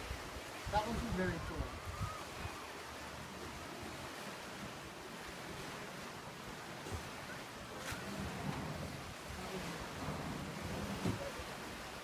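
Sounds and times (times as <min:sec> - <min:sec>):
wind on microphone: 0:00.0 - 0:06.0, 0:06.6 - 0:12.0
waves washing on beach: 0:00.0 - 0:12.0.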